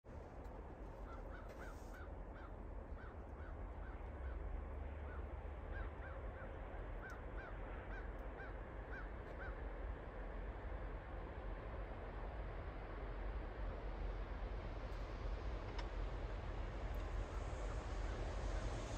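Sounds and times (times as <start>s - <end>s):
steady low rumble: 0.1s - 18.9s.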